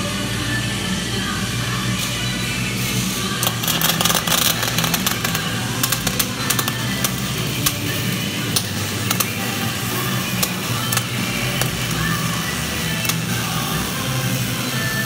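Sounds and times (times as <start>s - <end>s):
music playing: 0.0s - 15.0s
welding arc crackling: 2.0s - 15.0s.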